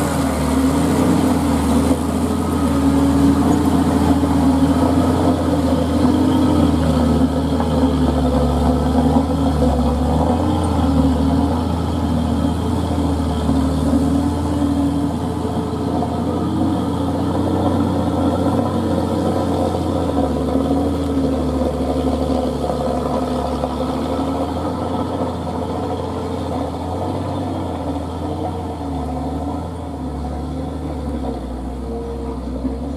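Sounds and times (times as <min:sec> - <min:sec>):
heavy truck engine running: 0:00.0 - 0:32.9.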